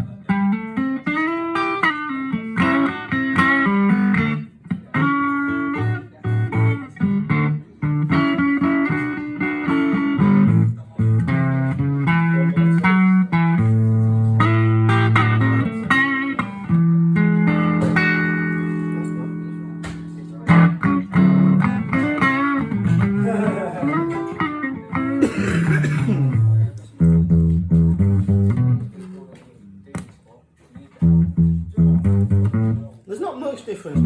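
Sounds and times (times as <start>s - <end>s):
bluesy electric guitar: 0.0s - 33.0s.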